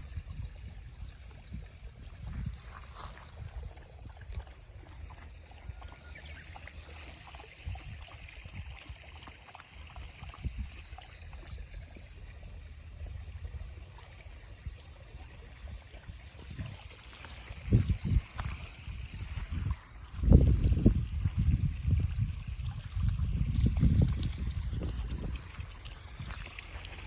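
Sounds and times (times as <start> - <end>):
shallow stream babbling: 0.0 - 27.0.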